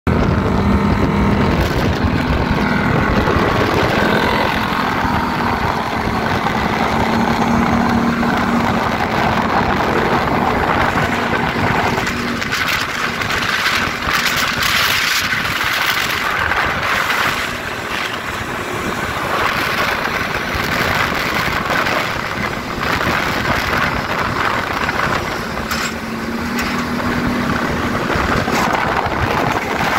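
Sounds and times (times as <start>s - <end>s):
atv engine running: 0.1s - 29.9s
gusty rushing wind noise: 0.1s - 29.9s.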